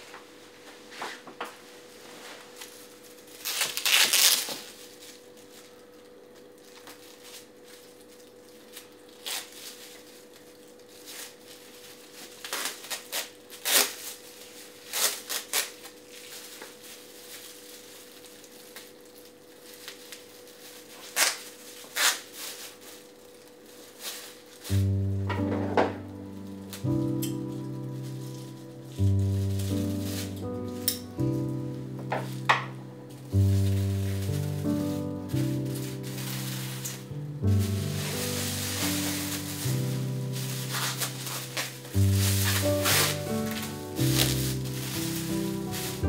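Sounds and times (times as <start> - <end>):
rustling tearing: 1.9 - 46.0.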